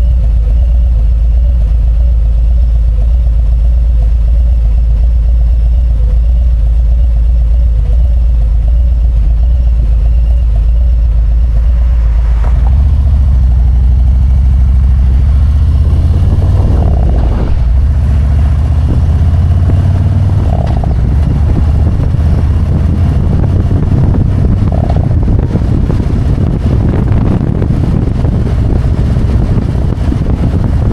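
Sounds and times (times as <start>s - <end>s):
motorcycle engine running: 0.0s - 30.9s
wind and road noise: 0.0s - 30.9s.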